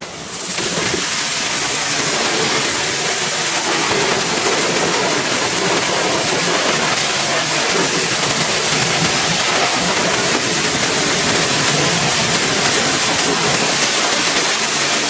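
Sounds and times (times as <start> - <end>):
pressure washer spraying water: 0.0 - 15.0.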